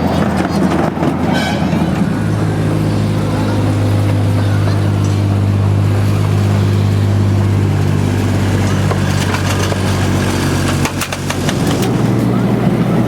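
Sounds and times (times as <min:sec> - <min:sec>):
petrol engine humming: 0:00.0 - 0:13.0.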